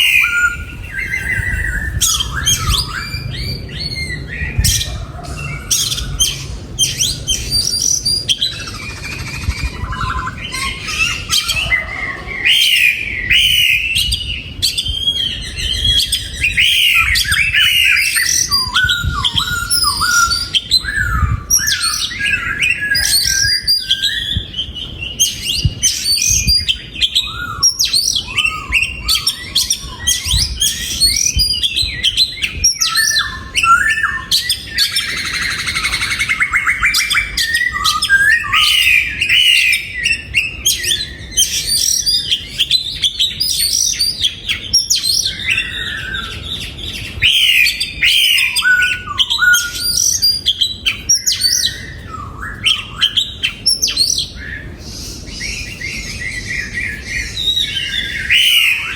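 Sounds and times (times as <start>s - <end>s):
bird singing whistled phrases: 0.0s - 58.9s.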